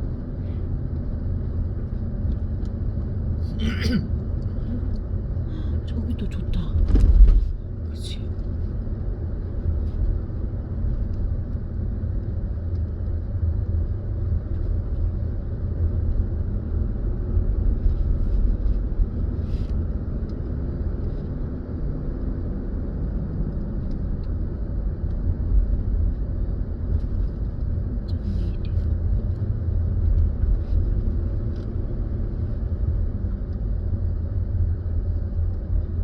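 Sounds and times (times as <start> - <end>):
car engine and tyres rumbling: 0.0 - 36.0.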